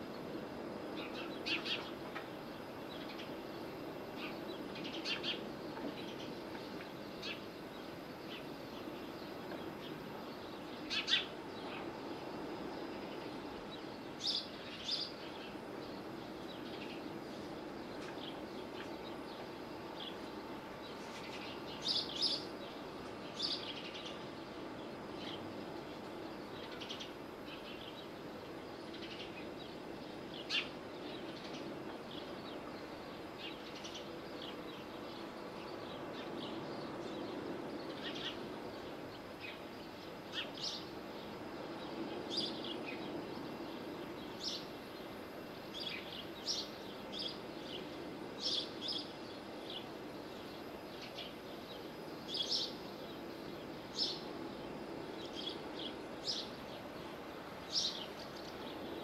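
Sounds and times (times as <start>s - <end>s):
low background noise: 0.0s - 59.0s.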